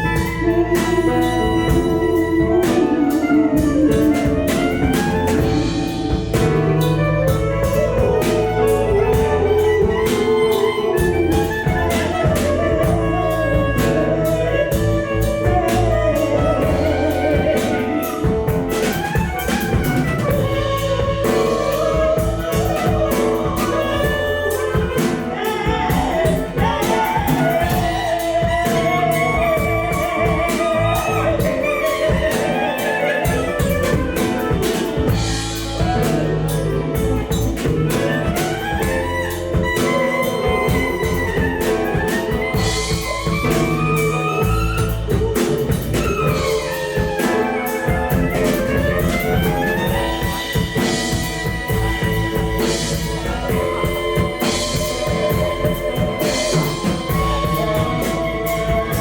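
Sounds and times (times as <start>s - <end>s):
drum kit: 0.0s - 59.0s
ornamented melodic lead line: 0.0s - 59.0s
small band playing: 0.0s - 59.0s.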